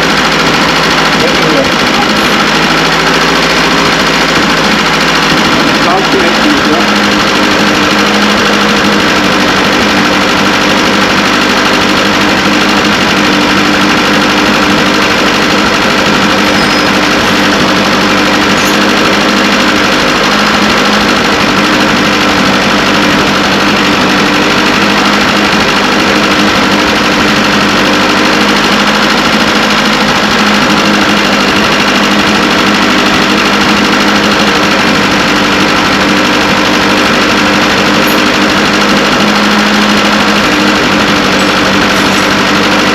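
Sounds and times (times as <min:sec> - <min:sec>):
petrol engine running steadily: 0:00.0 - 0:42.9.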